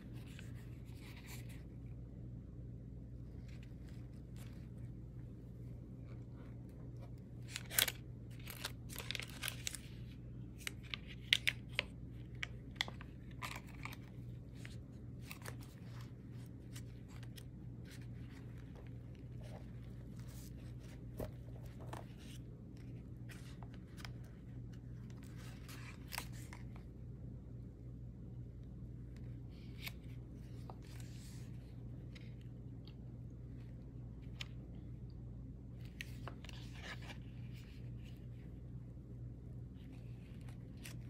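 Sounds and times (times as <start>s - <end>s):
paper pages rustling: 0.0s - 2.0s, 3.2s - 26.9s, 29.0s - 32.6s, 35.8s - 38.6s, 39.7s - 41.0s.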